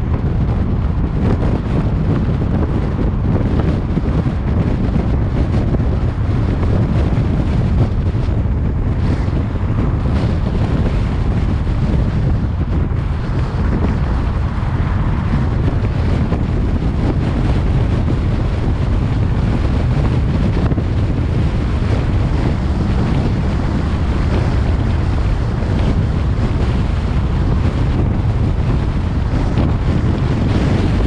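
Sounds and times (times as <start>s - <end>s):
road and tyre rumble: 0.0s - 31.0s
wind buffeting microphone: 0.0s - 31.0s.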